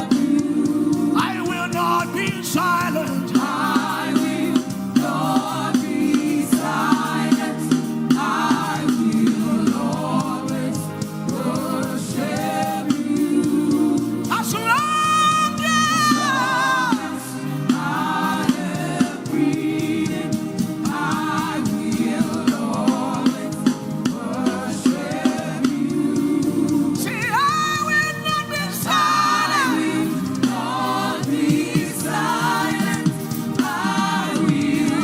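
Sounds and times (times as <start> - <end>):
steady percussive beat: 0.0 - 35.0
voices singing gospel: 0.0 - 35.0.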